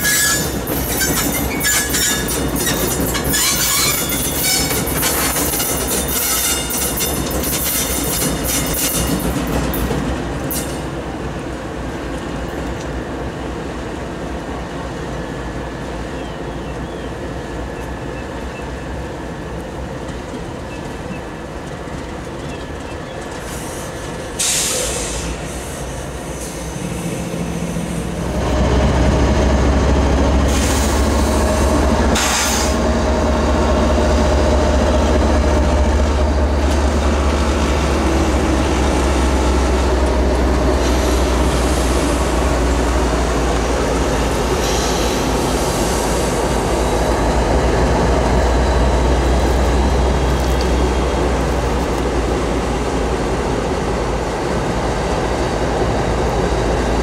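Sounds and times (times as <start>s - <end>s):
locomotive engine rumble: 0.0s - 57.0s.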